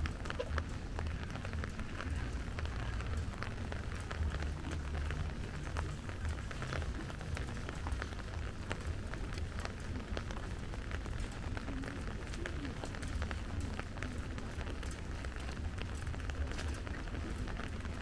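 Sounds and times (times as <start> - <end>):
raindrops ticking: 0.0 - 18.0
steady rain falling: 0.0 - 18.0.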